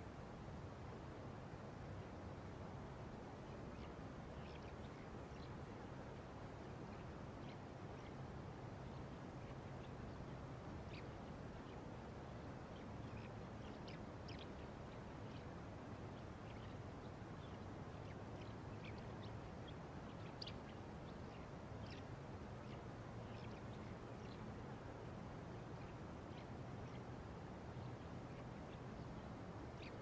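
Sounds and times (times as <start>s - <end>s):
low hiss and rumble: 0.0s - 30.0s
bird chirps: 3.4s - 5.9s, 6.8s - 8.2s, 8.8s - 24.8s, 25.6s - 30.0s.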